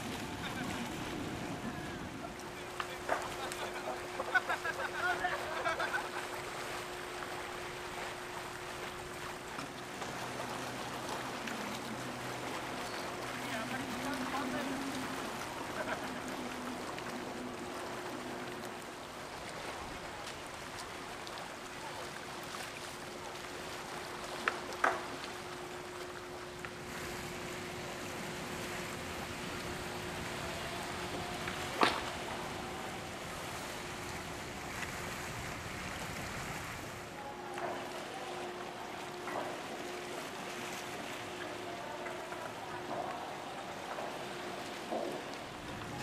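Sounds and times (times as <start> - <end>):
faint steady hum: 0.0 - 46.0
water washing: 0.0 - 46.0
wind: 0.0 - 46.0.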